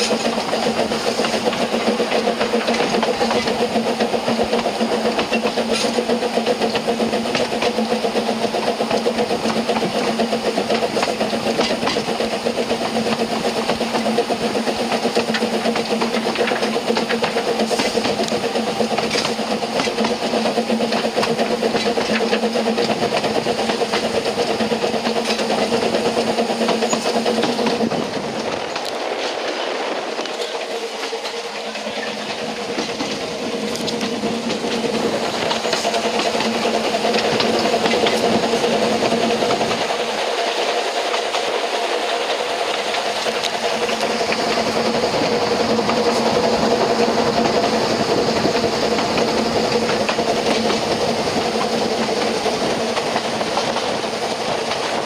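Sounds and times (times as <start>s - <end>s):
train wheels rumbling: 0.0s - 55.0s
wheels clicking over rail joints: 0.0s - 55.0s.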